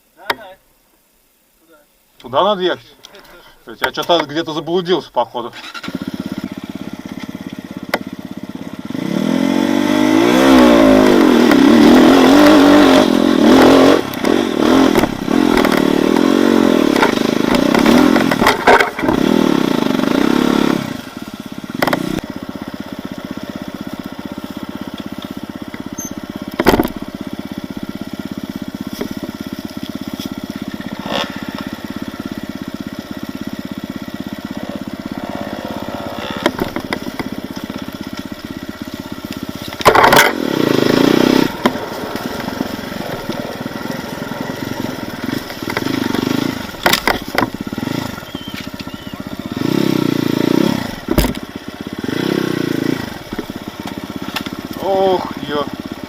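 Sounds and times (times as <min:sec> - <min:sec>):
motorcycle engine revving: 0:05.5 - 0:56.0.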